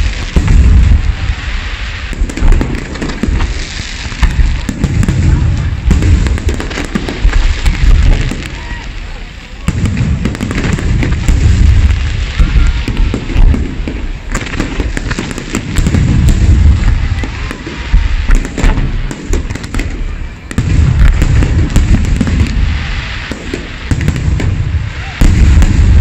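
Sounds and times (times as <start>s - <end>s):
fireworks booming: 0.0s - 26.0s
fireworks crackling: 0.0s - 26.0s.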